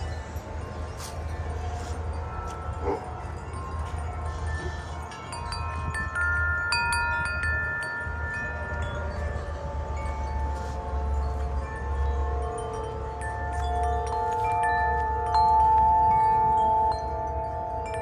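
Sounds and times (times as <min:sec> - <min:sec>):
low wind rumble: 0:00.0 - 0:18.0
wind chimes ringing: 0:00.0 - 0:18.0.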